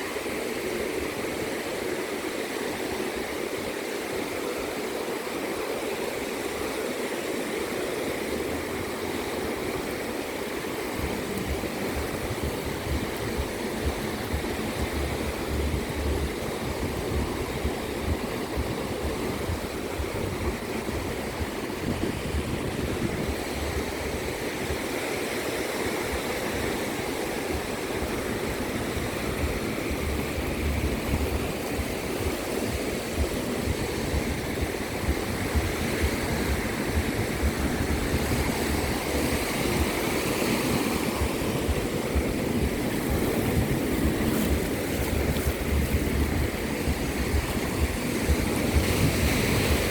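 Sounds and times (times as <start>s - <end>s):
ocean waves washing onto beach: 0.0s - 49.9s.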